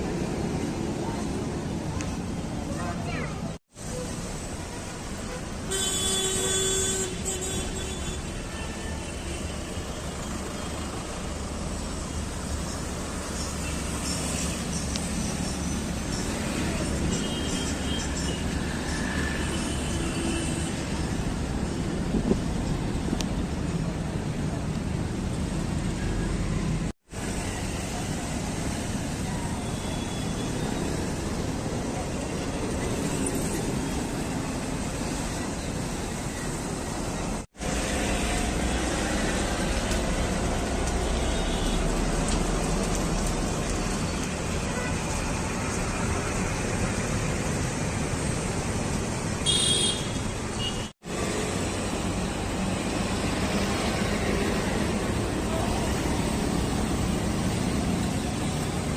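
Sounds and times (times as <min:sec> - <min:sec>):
road traffic: 0:00.0 - 0:58.9.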